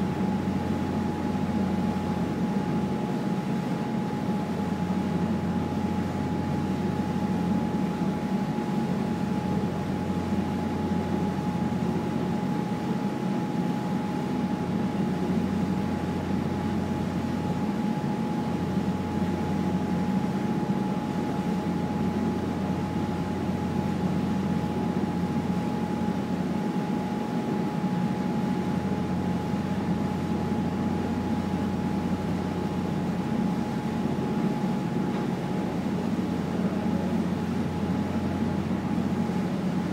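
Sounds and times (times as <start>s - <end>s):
thin constant whine: 0.0s - 39.9s.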